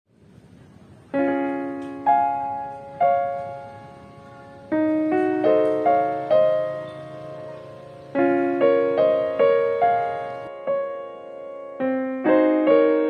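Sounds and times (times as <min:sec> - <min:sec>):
slow solo piano melody: 0:00.6 - 0:13.0.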